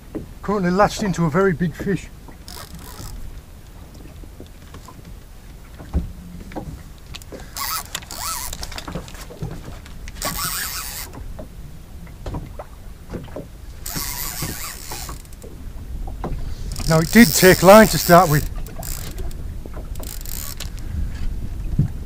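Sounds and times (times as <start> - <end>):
water slapping boat hull: 0.0 - 22.0
tackle and boat knocks: 1.8 - 22.0.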